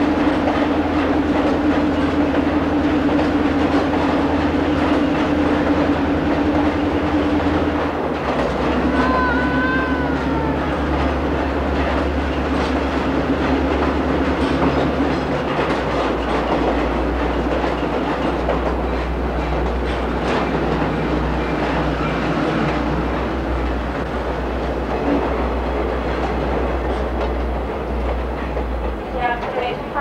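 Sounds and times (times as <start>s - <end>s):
train rumbling through tunnel: 0.0s - 30.0s
wheels clattering on rails: 0.0s - 30.0s.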